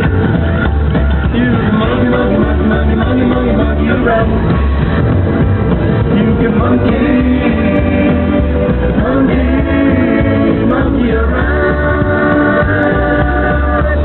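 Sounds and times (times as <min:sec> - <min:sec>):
instrumental music with pulsing bass: 0:00.0 - 0:14.0.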